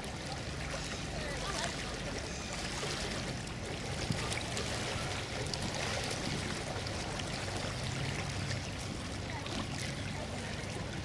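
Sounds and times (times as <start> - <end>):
low hum of ship engines: 0.0 - 11.0
water lapping and trickling: 0.0 - 11.0.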